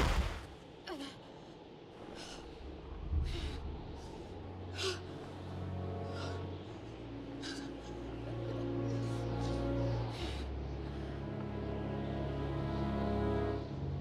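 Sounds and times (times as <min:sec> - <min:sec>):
low sustained music: 0:00.7 - 0:14.0.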